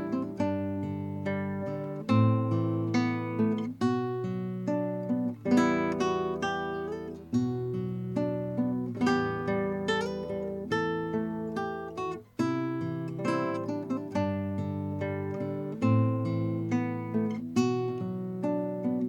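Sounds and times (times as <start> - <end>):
classical guitar chords plucked: 0.0 - 19.0.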